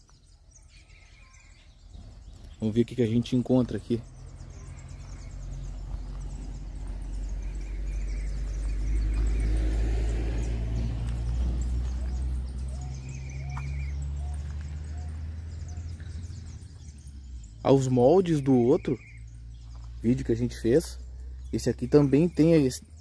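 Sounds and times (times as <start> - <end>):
road vehicle passing: 0.5 - 23.0.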